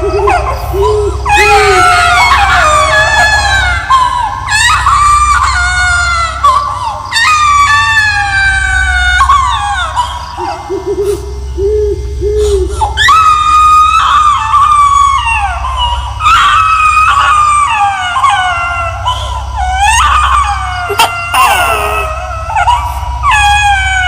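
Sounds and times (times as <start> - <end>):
low steady drone: 0.0 - 24.0.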